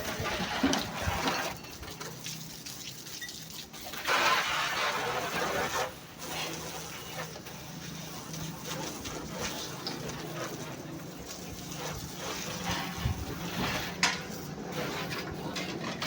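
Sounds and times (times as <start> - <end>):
water spraying onto truck: 0.0 - 16.0.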